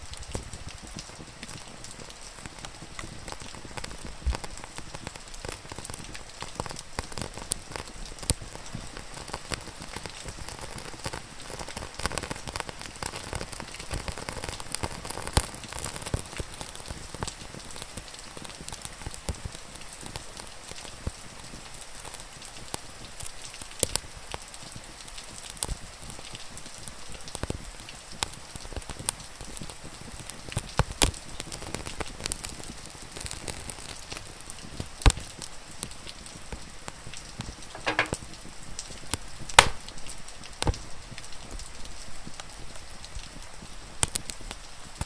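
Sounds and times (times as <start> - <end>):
steady rain: 0.0 - 45.0
wood fire crackling: 0.0 - 45.0.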